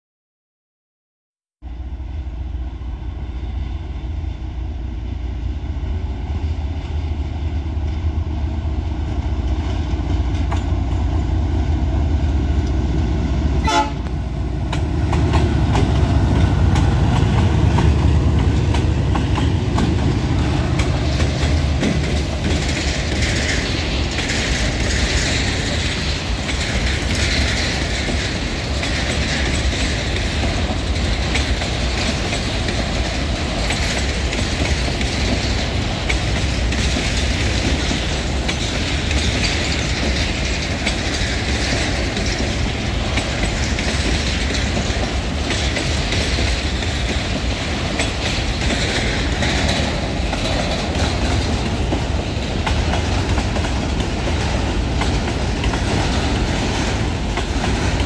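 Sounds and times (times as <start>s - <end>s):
diesel locomotives rumbling: 1.6s - 58.0s.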